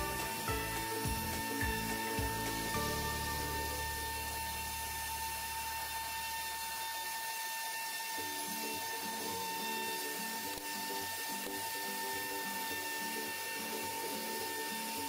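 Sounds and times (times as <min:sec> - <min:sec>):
router spindle high whine: 0:00.0 - 0:15.0.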